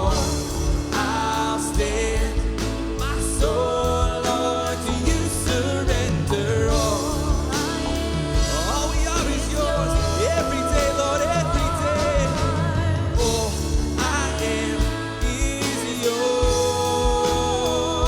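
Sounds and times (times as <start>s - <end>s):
strong steady bass: 0.0s - 18.0s
worship band playing: 0.0s - 18.0s.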